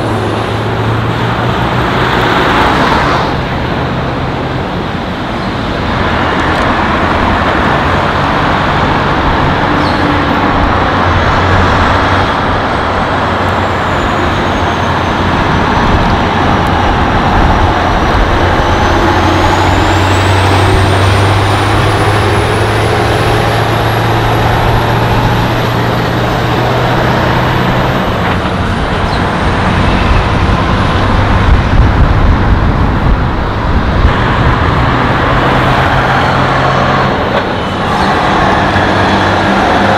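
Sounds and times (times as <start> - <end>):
passing traffic road noise: 0.0 - 39.9
truck diesel engine under load: 0.0 - 39.9.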